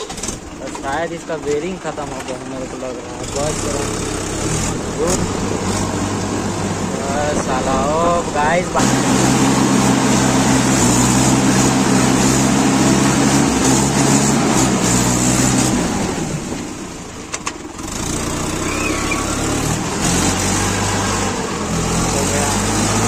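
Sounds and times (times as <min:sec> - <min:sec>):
diesel tractor engine running: 0:00.0 - 0:23.0.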